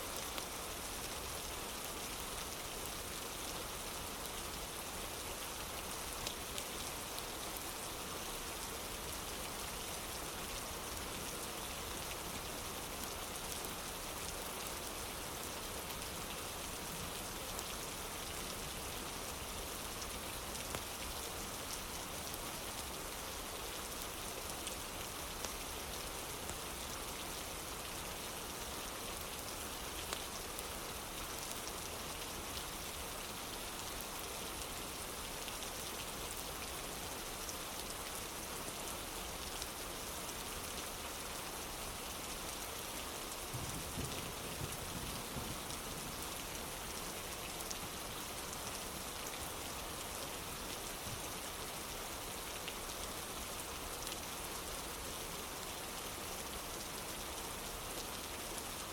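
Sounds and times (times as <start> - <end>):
rain on wooden porch: 0.0 - 58.9.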